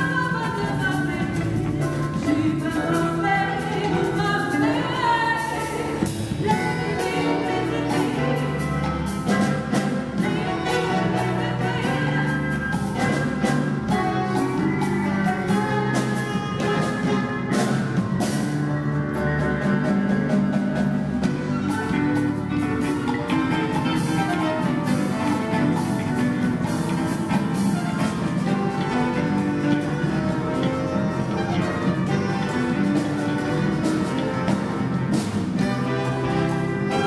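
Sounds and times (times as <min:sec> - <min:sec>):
drum kit keeping time: 0:00.0 - 0:37.0
piano: 0:00.0 - 0:37.0
saxophones: 0:00.0 - 0:37.0
violins: 0:00.0 - 0:37.0
brass: 0:00.8 - 0:37.0.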